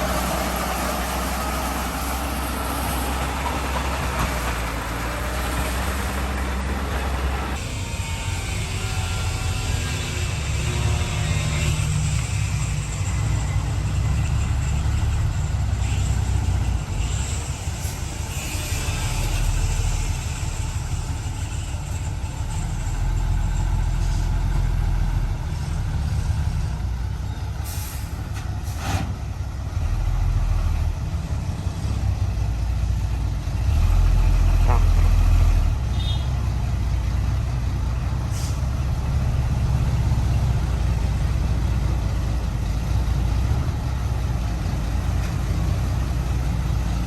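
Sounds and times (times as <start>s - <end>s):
diesel machinery engine drone: 0.0s - 47.0s.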